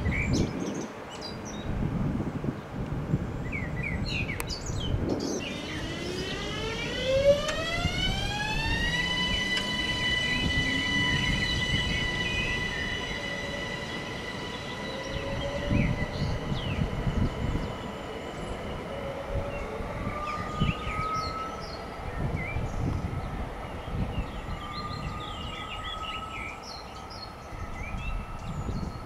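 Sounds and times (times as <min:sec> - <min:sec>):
birds chirping: 0:03.5 - 0:29.0
electric train whining: 0:04.9 - 0:29.0.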